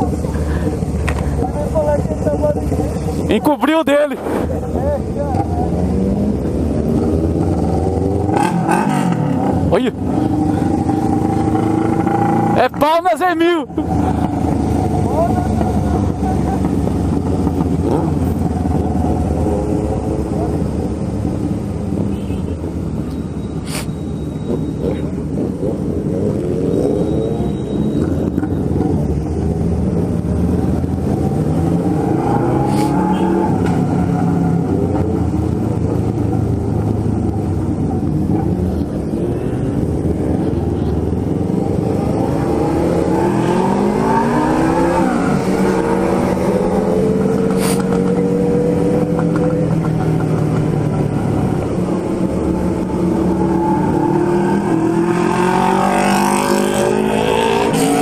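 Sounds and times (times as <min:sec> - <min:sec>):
motorcycle engine revving: 0:04.2 - 0:12.8, 0:13.8 - 0:21.6, 0:24.4 - 0:58.0.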